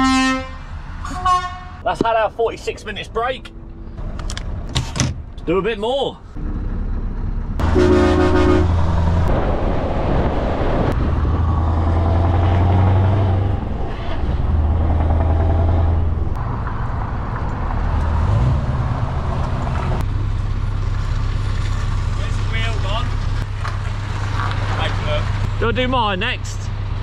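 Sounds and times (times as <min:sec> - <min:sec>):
lorry diesel engine droning: 0:05.4 - 0:27.0.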